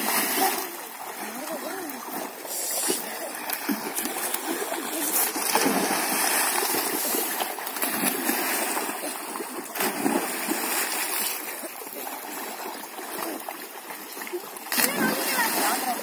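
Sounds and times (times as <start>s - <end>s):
water splashing in a pond: 0.0s - 16.0s.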